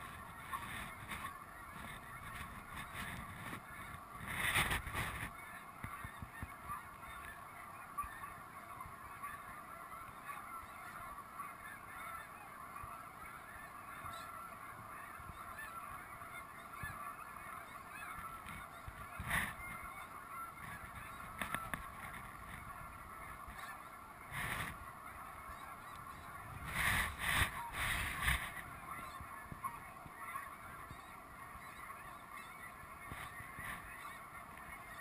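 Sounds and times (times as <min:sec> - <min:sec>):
geese calling: 0:00.0 - 0:35.0.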